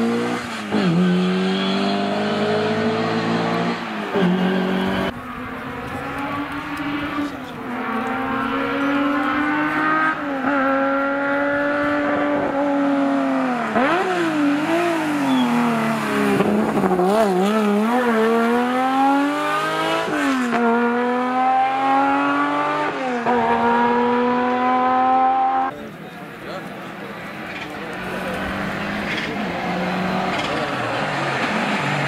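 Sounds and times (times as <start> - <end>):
rally car engine revving: 0.0 - 25.8, 26.6 - 32.0.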